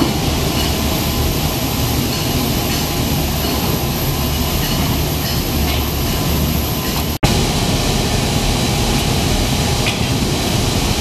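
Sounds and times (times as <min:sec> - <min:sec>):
dense rushing hiss: 0:00.0 - 0:11.0
low machine hum: 0:00.0 - 0:11.0.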